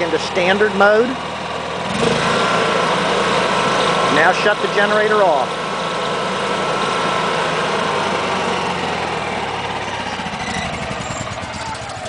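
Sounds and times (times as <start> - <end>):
generator engine winding down: 0.0 - 12.0.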